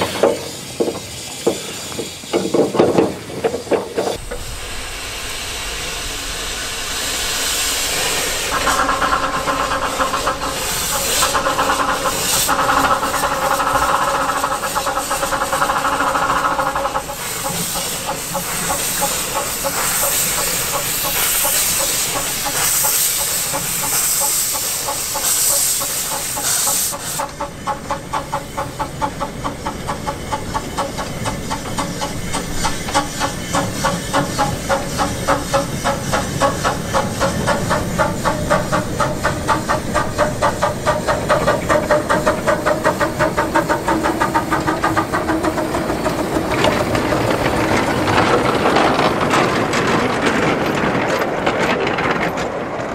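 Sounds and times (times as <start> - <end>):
loud steam hiss: 0.0 - 51.1
steam locomotive exhaust beats: 0.0 - 52.9.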